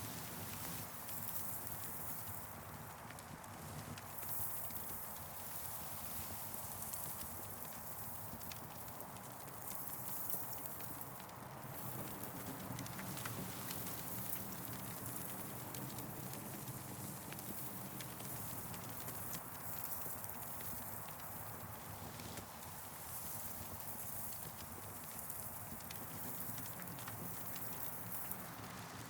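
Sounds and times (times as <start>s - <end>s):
campfire crackling: 4.0s - 29.0s.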